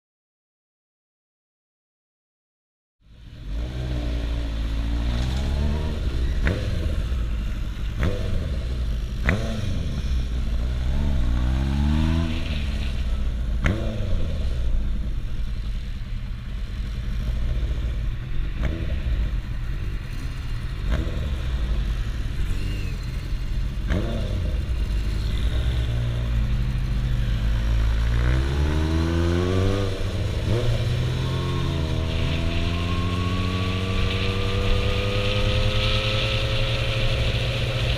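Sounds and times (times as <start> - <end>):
motorcycle engine revving through gears: 3.1 - 37.9.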